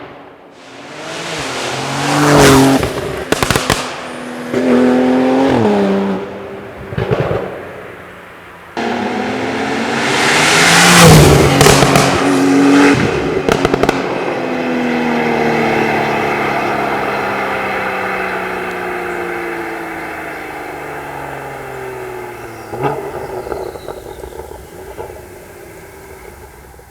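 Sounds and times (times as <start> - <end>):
exhaust popping and crackling: 0.0 - 26.9
car engine running: 0.7 - 26.9.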